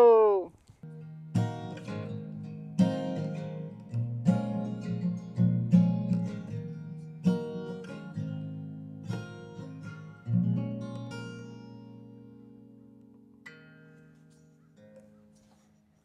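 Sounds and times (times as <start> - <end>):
acoustic guitar strumming chords: 0.8 - 15.6.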